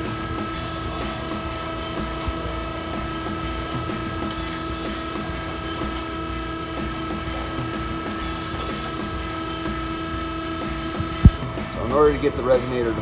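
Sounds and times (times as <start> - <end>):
machine whine: 0.0 - 13.0
shop machinery humming: 0.0 - 13.0.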